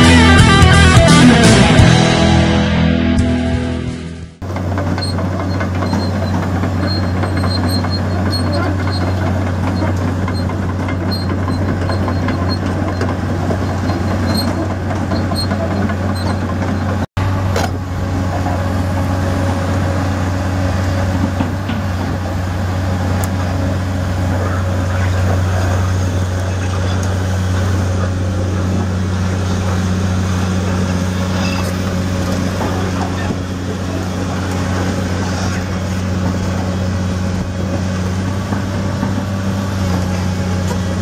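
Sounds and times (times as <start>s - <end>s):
excavator diesel engine droning: 0.0s - 41.0s.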